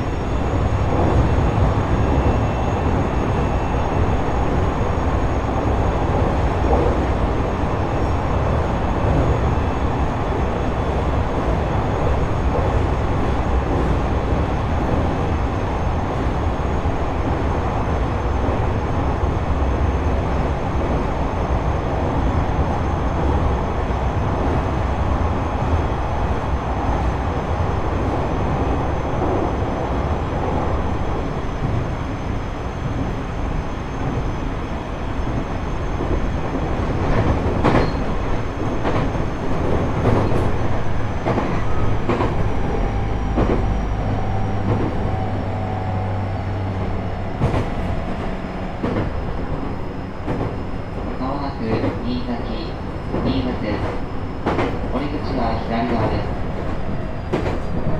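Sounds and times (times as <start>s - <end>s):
wheels rumbling on rail: 0.0s - 57.9s.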